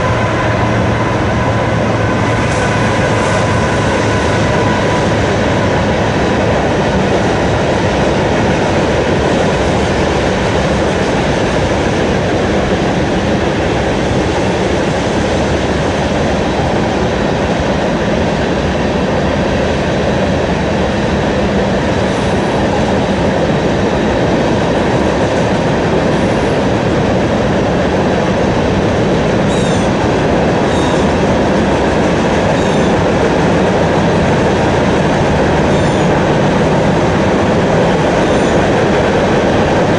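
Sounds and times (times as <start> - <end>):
train rumbling and rattling past: 0.0 - 39.9.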